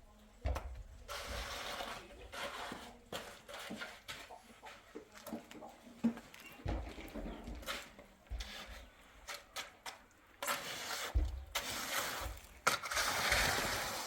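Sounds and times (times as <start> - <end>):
hand tools scraping mortar: 1.0 - 5.5, 6.9 - 14.0.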